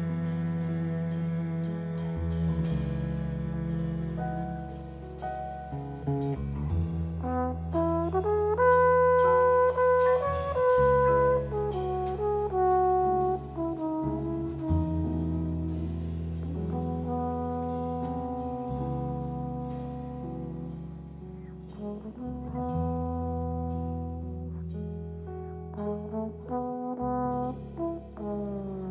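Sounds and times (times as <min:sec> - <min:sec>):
drums: 0:00.0 - 0:28.9
electric bass: 0:00.0 - 0:28.9
piano: 0:00.0 - 0:28.9
trombone playing jazz melody: 0:00.0 - 0:28.9.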